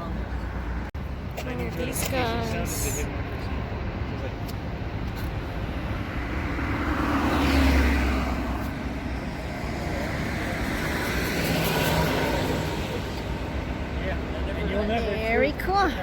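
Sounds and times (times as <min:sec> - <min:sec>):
vehicles passing by: 0:00.0 - 0:16.0.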